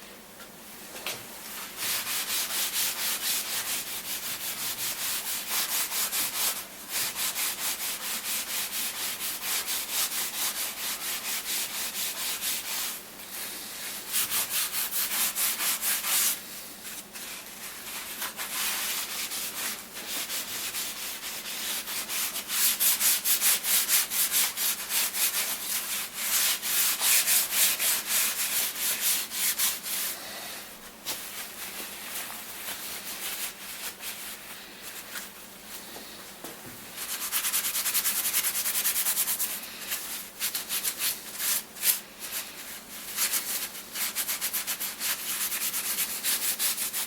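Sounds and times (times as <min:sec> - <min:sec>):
hand scrubbing metal surface: 0:01.6 - 0:30.5, 0:37.0 - 0:47.0.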